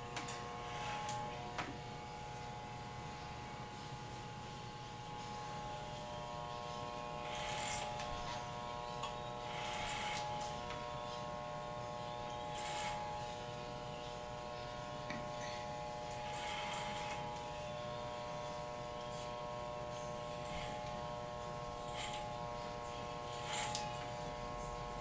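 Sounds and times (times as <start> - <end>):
electric hair clipper buzzing: 0.0 - 25.0.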